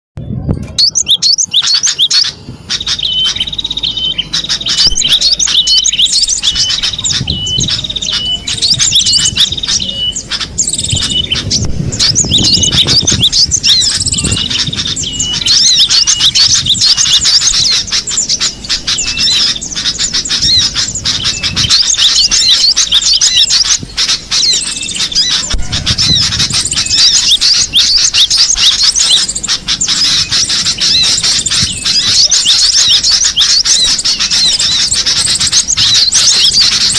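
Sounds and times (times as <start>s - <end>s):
bird high chirps: 0.2s - 36.9s
low rumbling: 0.2s - 36.9s.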